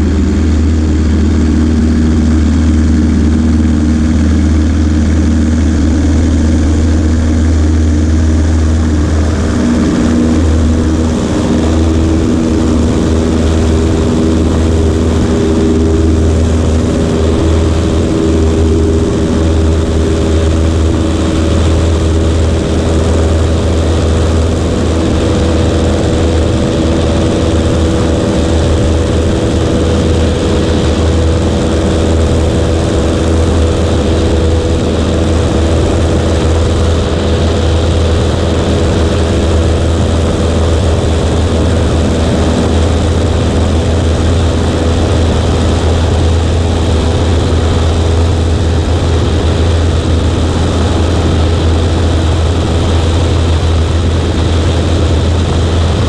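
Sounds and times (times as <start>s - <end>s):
propeller plane engine droning: 0.0s - 56.0s.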